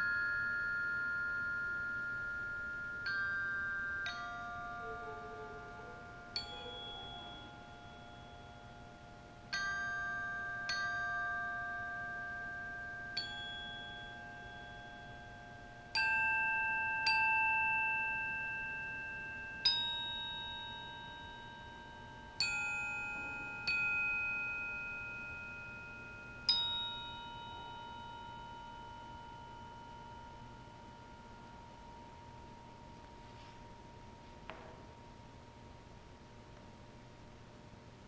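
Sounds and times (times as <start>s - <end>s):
glockenspiel chords: 0.0s - 36.0s.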